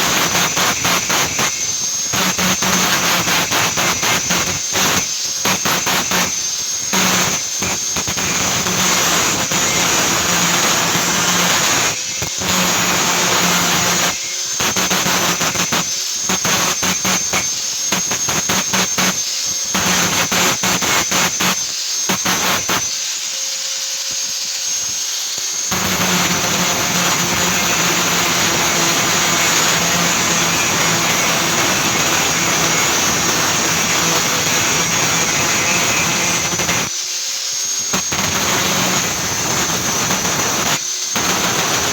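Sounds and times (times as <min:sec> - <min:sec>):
electric tool grinding steel: 0:00.0 - 0:23.0, 0:24.6 - 0:36.9, 0:37.9 - 0:41.9
high steady whine: 0:00.0 - 0:37.0, 0:37.8 - 0:41.9.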